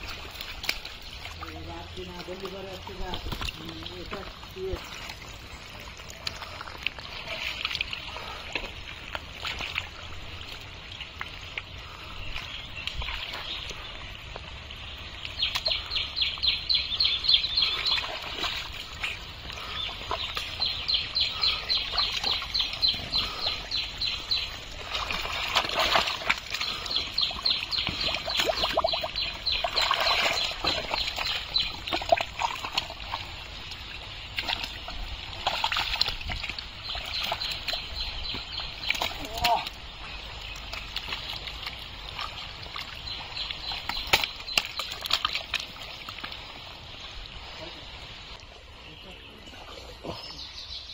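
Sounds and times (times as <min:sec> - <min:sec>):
fish splashing in water: 0:00.0 - 0:12.1, 0:12.7 - 0:48.4.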